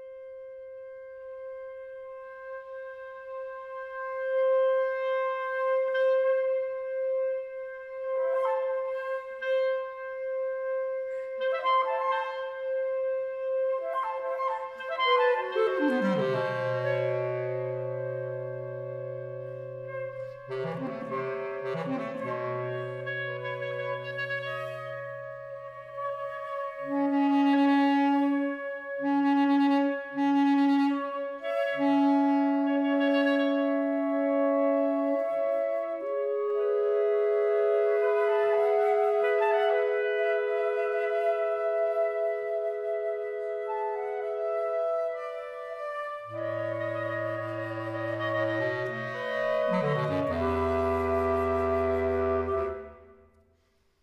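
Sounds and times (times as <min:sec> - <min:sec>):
bass clarinet low note: 0:00.0 - 0:53.2
woodwind quartet playing: 0:00.0 - 0:53.4.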